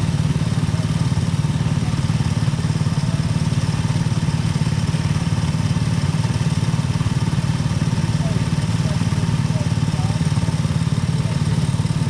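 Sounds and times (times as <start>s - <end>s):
kart engine running: 0.0s - 12.0s.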